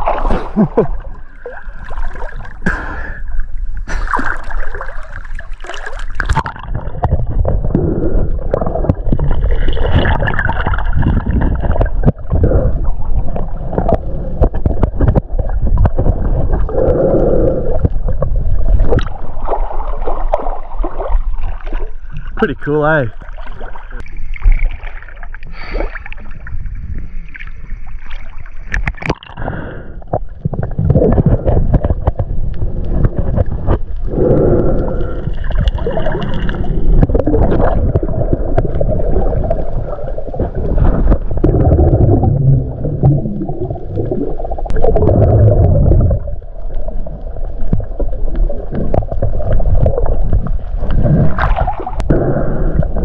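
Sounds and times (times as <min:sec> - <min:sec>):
water sloshing and splashing: 0:00.0 - 0:16.9, 0:17.7 - 0:29.5, 0:30.1 - 0:34.2, 0:35.0 - 0:52.2
muffled underwater rush and gurgle: 0:00.0 - 0:53.0.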